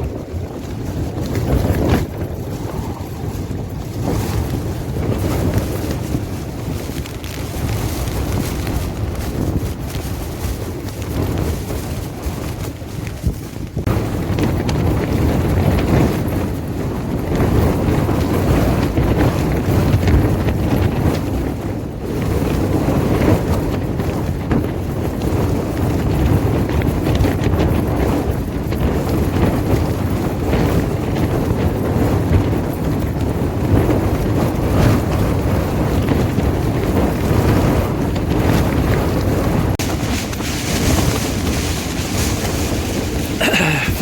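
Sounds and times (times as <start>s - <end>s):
strong wind gusting: 0.0s - 44.0s
wind rumble on microphone: 0.0s - 44.0s.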